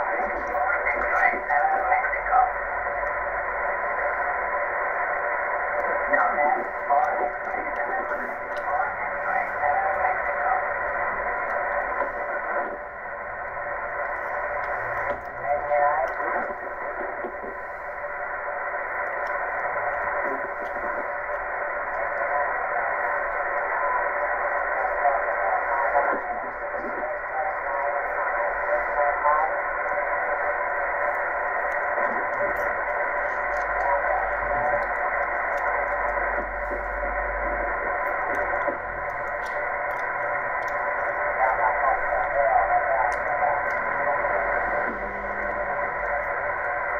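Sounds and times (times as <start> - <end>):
faint radio voice: 0.0 - 3.0, 5.8 - 12.8, 14.1 - 17.7, 21.9 - 36.8, 37.4 - 46.7
radio receiver hiss: 0.0 - 46.9.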